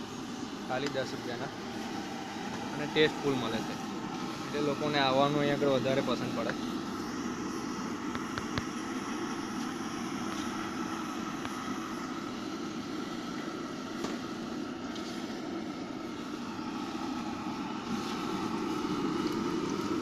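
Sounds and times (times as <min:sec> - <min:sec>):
gas burner roar: 0:00.0 - 0:20.0.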